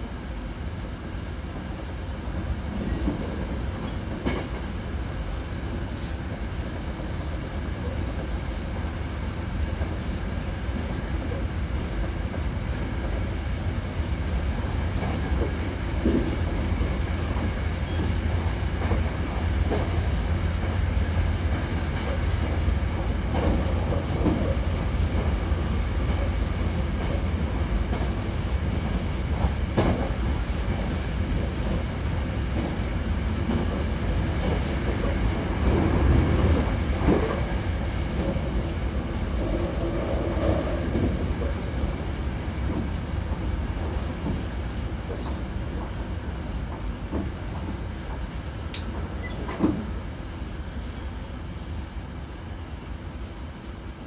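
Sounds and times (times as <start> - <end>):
train rumbling inside car: 0.0 - 54.0.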